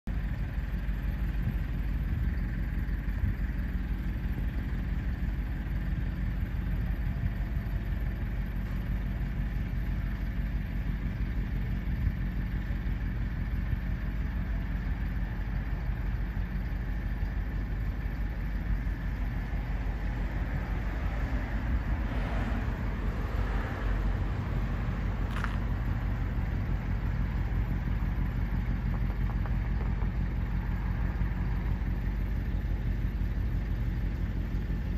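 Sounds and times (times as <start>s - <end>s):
distant engines rumbling: 0.1s - 34.9s.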